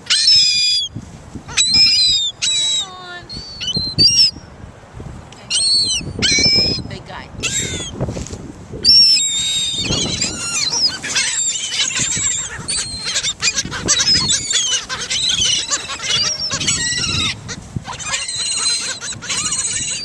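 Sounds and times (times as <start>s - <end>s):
seagulls calling: 0.0s - 4.4s, 5.5s - 8.0s, 8.8s - 20.0s.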